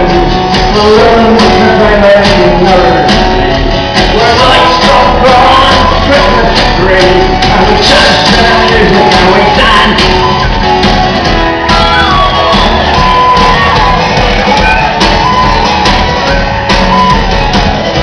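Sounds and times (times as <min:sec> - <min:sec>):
folk-rock band playing: 0:00.0 - 0:18.0.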